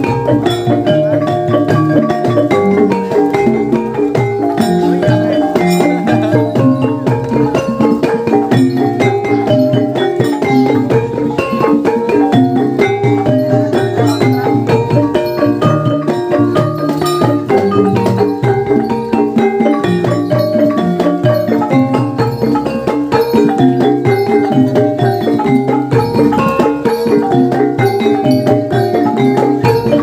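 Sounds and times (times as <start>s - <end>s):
mallet-struck keyed instruments: 0.0s - 30.0s
steady drum strokes: 0.0s - 30.0s.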